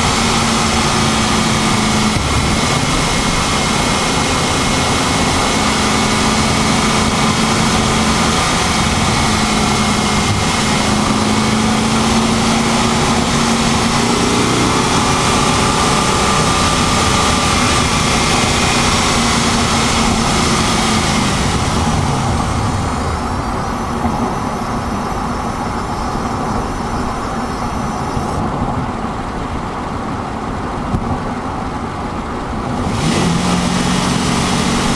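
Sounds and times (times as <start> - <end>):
high-pitched whine: 0.0 - 28.6
car engine and road noise: 0.0 - 34.9.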